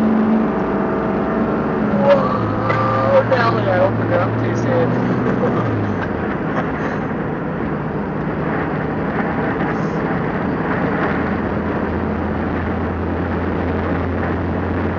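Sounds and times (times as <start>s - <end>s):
low engine drone: 0.0s - 14.9s
road and wind noise in car: 0.0s - 14.9s.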